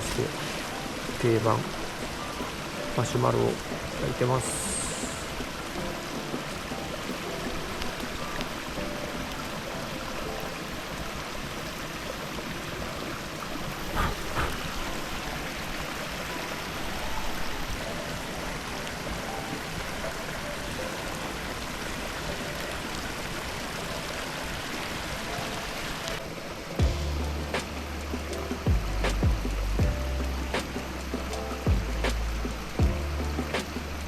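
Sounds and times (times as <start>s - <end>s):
mountain stream rushing: 0.0s - 34.0s.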